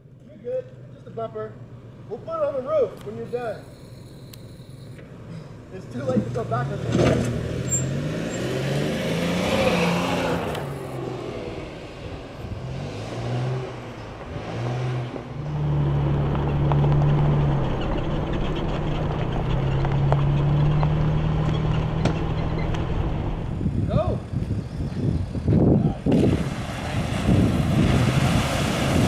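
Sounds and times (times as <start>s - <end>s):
vehicle engine drone: 0.0s - 29.0s
suv engine revving: 1.6s - 29.0s.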